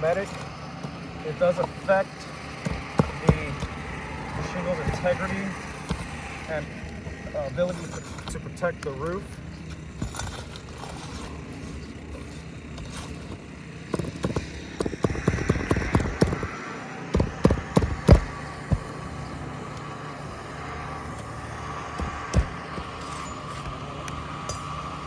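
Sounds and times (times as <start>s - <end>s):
hand tools scraping shingles: 0.0s - 25.0s
steady background noise: 0.0s - 25.0s.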